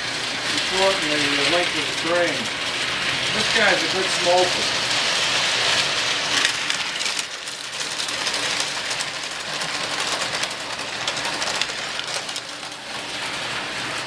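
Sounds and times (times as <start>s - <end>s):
toy electric train running: 0.0s - 14.0s.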